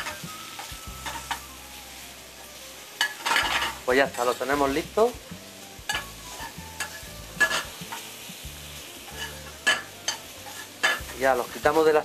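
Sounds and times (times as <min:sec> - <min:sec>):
utensil scraping a pan: 0:00.0 - 0:01.5, 0:03.0 - 0:05.1, 0:05.9 - 0:11.9
mushrooms sizzling in a frying pan: 0:00.0 - 0:12.0.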